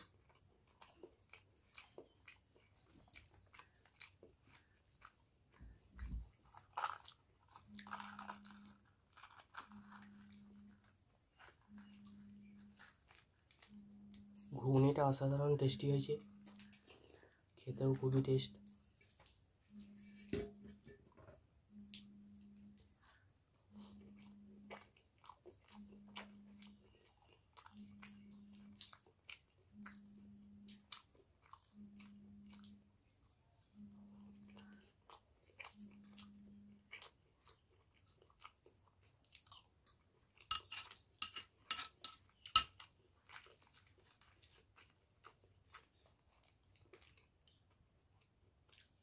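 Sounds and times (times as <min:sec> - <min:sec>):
person chewing: 0:00.0 - 0:49.0.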